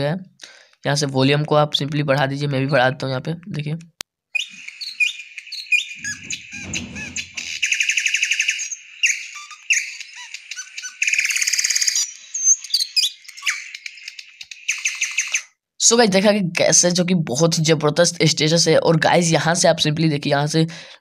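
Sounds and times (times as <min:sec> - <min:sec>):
birdsong through small speaker: 0:00.0 - 0:20.6.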